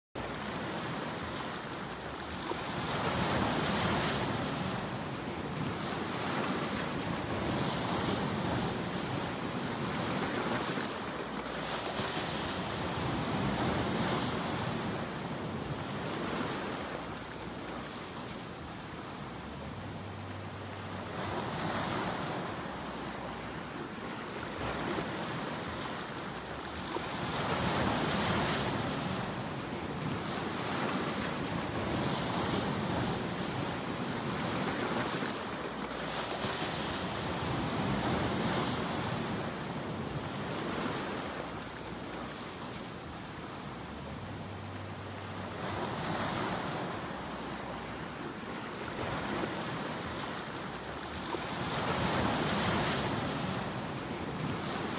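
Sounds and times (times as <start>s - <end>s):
ocean waves breaking: 0.2s - 54.9s.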